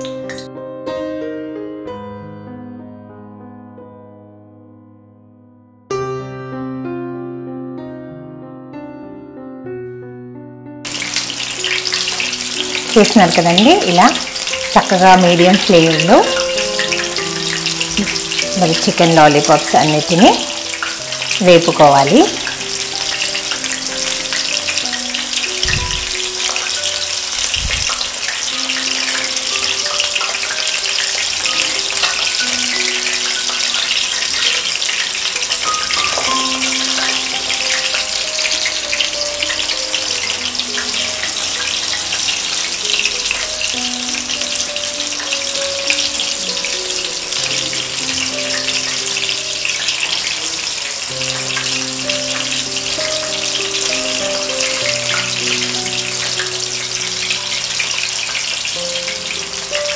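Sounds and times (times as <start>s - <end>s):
chicken deep-frying in oil: 0.0s - 0.5s, 10.9s - 59.9s
background music: 0.0s - 59.9s.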